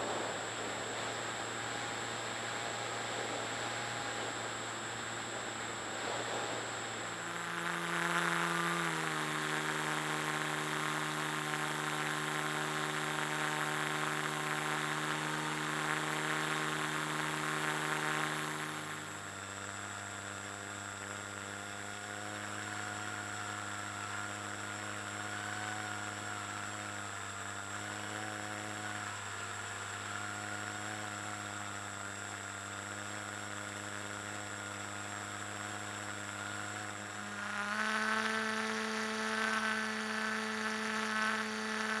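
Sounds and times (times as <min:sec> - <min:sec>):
model plane motor and propeller: 0:00.0 - 0:42.0.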